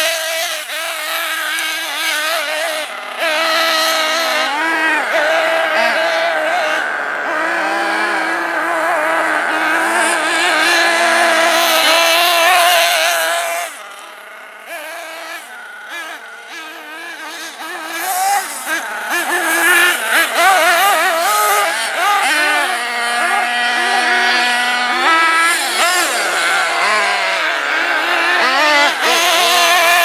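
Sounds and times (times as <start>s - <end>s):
small nitro engines revving: 0.0s - 30.0s.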